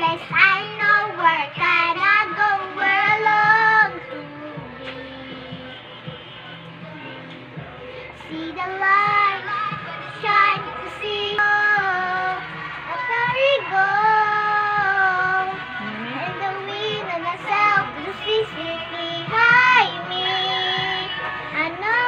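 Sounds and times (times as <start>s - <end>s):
girl singing into a fan: 0.0s - 5.9s, 6.8s - 22.0s.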